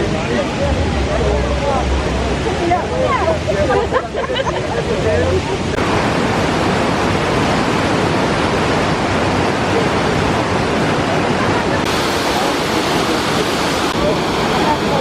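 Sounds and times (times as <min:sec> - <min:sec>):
loud rushing noise: 0:00.0 - 0:03.6, 0:05.7 - 0:15.0.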